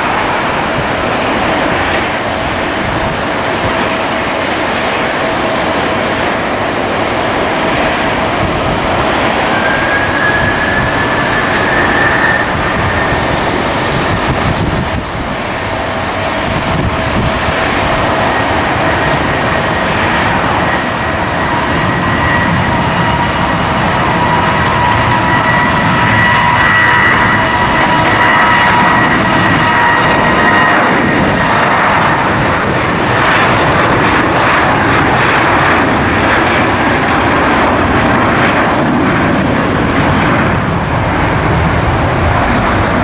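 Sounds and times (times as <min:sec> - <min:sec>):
high engine whine: 0:00.0 - 0:43.0
jet engines roaring: 0:00.0 - 0:43.0.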